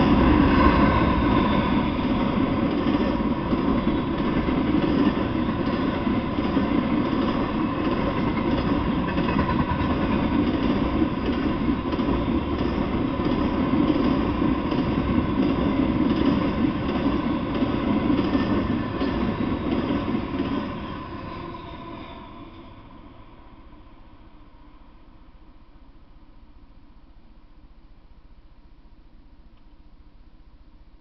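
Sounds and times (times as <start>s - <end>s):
freight train passing: 0.0s - 26.4s.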